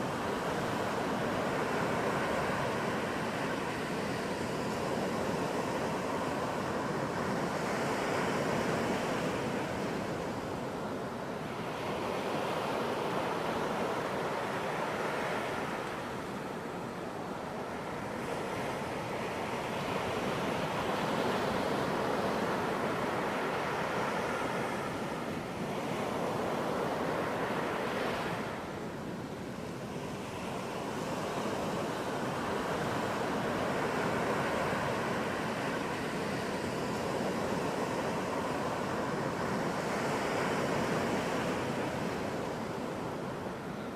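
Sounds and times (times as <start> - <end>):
waves breaking on beach: 0.0 - 43.9.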